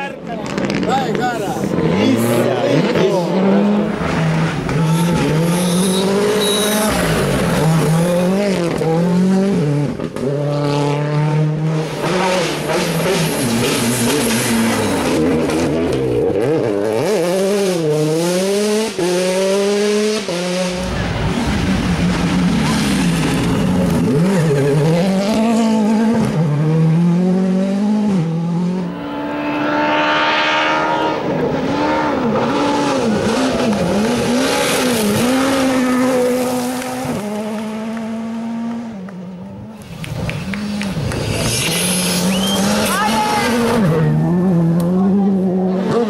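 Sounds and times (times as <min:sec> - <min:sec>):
gravel and tyre noise: 0:00.0 - 0:46.0
rally car engines revving: 0:00.0 - 0:46.0.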